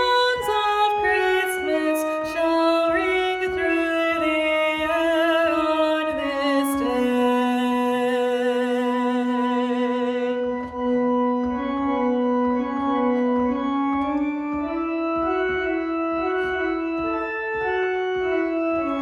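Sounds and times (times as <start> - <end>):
organ-like keyboard notes: 0.0 - 19.0.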